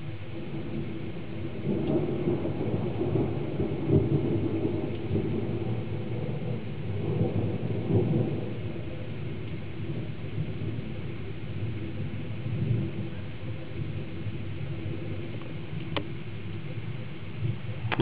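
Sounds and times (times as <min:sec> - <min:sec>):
rain hissing: 0:00.0 - 0:18.0
thunder rolling: 0:00.4 - 0:15.7.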